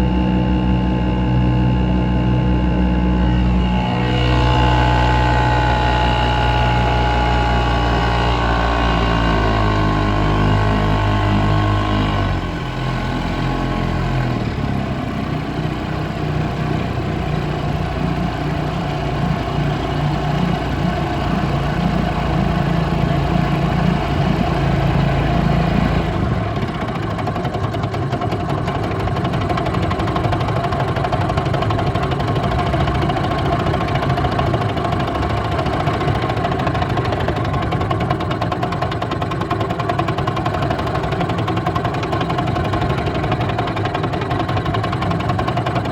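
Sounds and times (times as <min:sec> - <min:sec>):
outboard motor running: 0:00.0 - 0:45.9.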